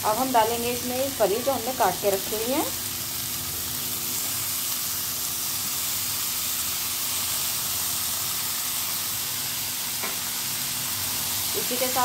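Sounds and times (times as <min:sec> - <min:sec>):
bean pods sizzling in oil: 0:00.0 - 0:12.0.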